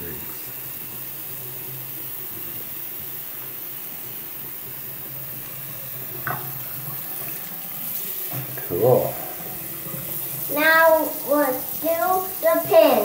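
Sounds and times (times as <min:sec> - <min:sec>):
tap water running into basin: 0:00.0 - 0:13.0.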